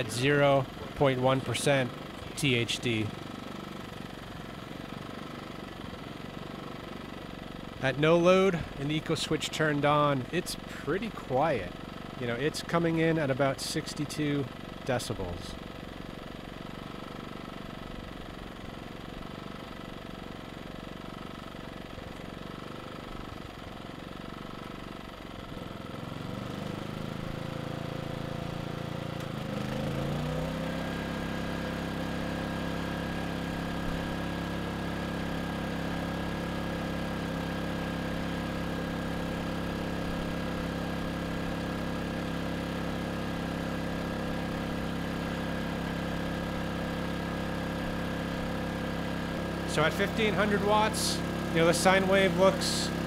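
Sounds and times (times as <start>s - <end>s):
generator engine running: 0.0s - 53.0s.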